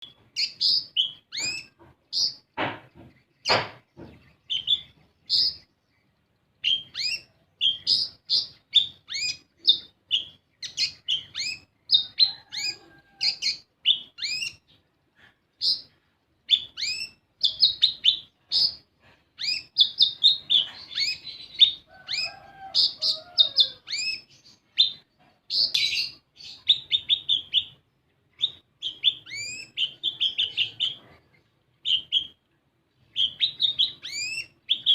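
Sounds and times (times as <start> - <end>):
sunbird chirping: 0.0 - 34.9.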